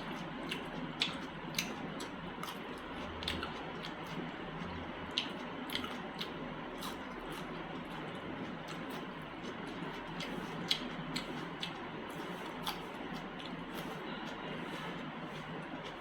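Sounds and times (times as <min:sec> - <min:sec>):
chewing mouth sounds: 0:00.0 - 0:16.0.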